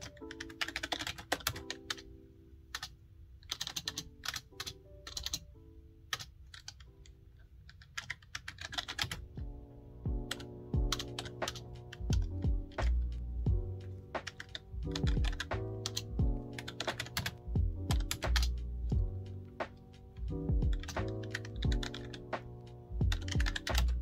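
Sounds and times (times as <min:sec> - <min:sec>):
soft background music: 0:00.0 - 0:24.0.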